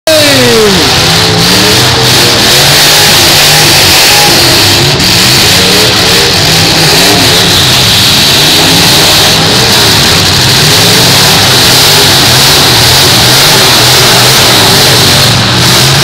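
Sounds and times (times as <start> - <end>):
car engines revving: 0.0 - 16.0
steady noise: 0.0 - 16.0.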